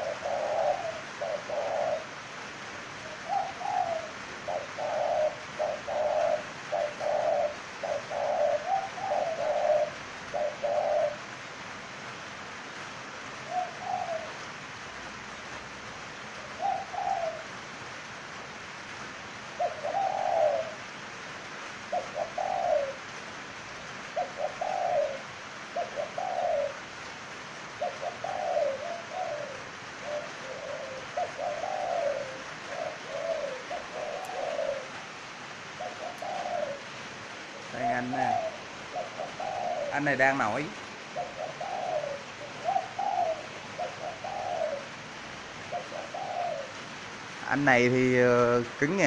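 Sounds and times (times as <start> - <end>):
dove cooing: 0.0 - 11.4, 13.3 - 14.5, 15.4 - 17.7, 19.4 - 23.2, 24.0 - 49.0.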